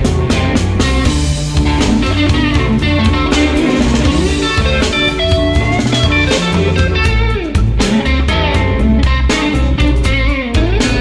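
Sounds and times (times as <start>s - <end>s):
blues-rock instrumental music: 0.0s - 11.0s
lead guitar with bent notes: 0.0s - 11.0s.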